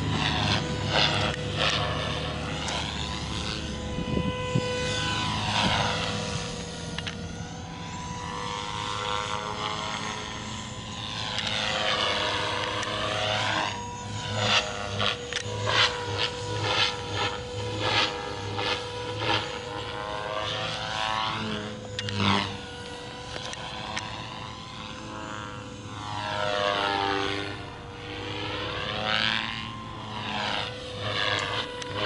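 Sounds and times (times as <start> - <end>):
model helicopter whining: 0.0 - 32.0.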